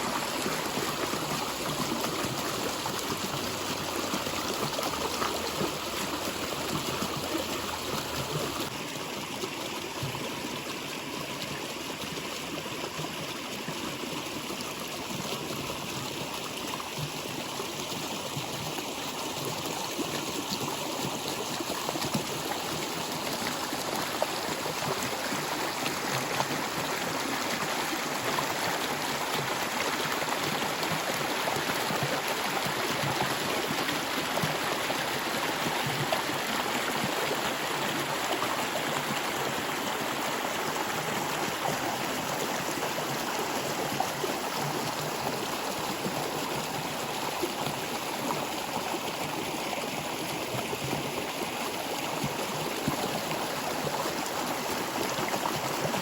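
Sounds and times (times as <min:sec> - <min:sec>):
stream gurgling over stones: 0:00.0 - 0:56.0.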